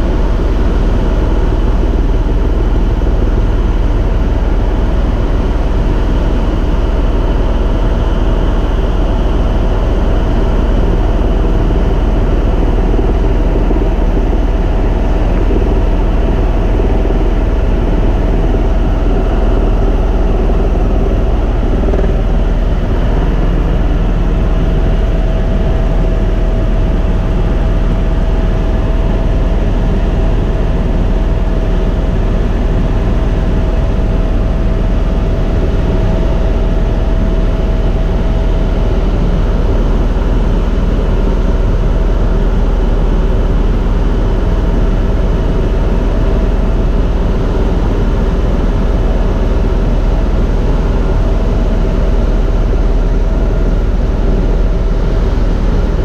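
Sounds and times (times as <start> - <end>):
helicopter rotor and engine drone: 0.0 - 56.0
thin steady whine: 0.0 - 56.0.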